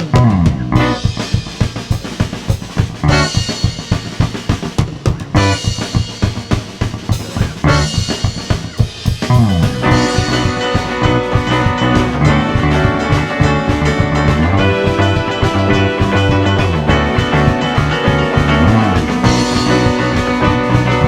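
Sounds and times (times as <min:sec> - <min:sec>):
busy drum kit groove: 0:00.0 - 0:21.0
instrumental prog rock: 0:00.0 - 0:21.0.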